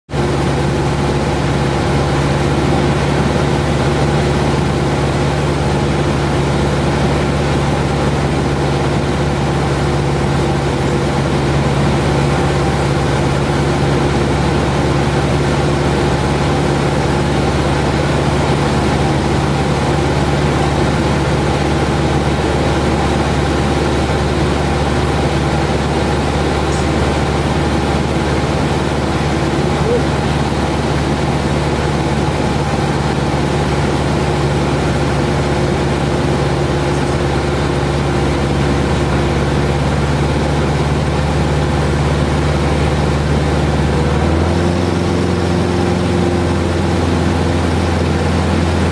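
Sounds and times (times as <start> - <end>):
light aircraft engine droning: 0.1 - 48.9.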